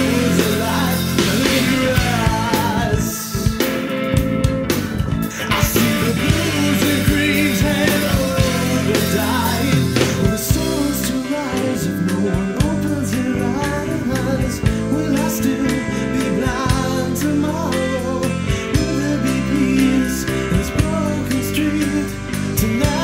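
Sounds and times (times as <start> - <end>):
alternative rock song: 0.0 - 23.0.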